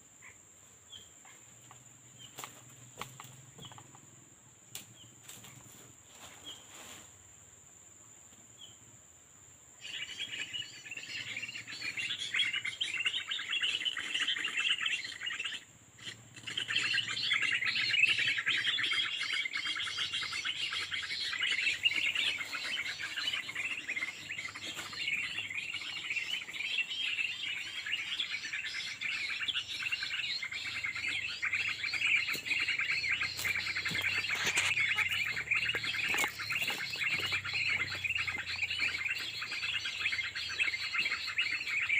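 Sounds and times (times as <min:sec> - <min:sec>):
small birds chirping: 0:00.0 - 0:06.9, 0:09.7 - 0:41.9.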